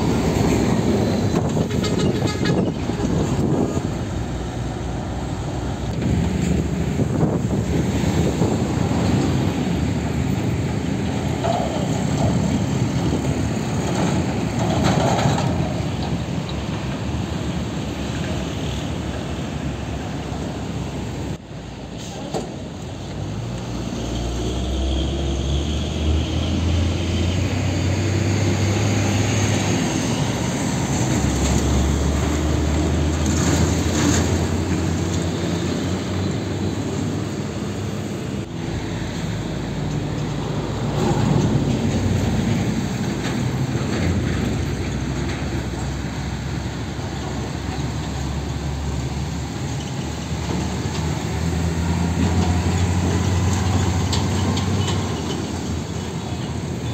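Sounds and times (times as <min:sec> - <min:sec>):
diesel truck engine droning: 0:00.0 - 0:56.9
road traffic: 0:00.0 - 0:56.9.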